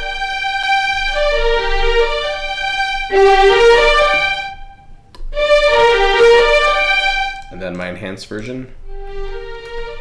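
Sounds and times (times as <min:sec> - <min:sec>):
violins playing slow legato: 0:00.0 - 0:07.8, 0:08.8 - 0:10.0.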